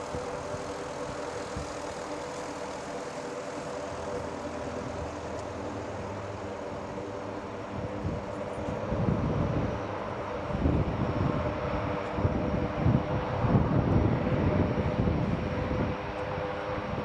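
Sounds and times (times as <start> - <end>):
aircraft engines droning overhead: 0.0 - 17.0.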